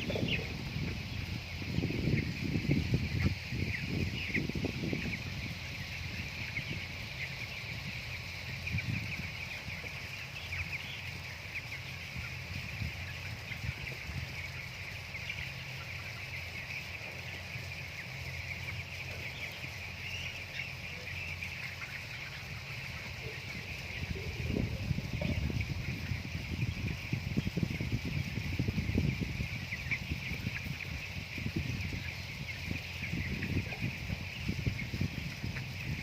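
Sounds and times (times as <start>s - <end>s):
chickens peeping and chirping: 0.0s - 36.0s.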